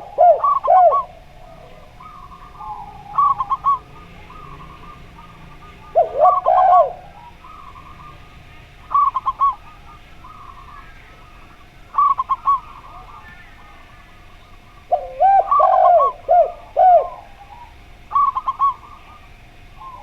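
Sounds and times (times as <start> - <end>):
dove low two-part coo: 0.0 - 20.0
doves bubbling coos: 0.0 - 20.0.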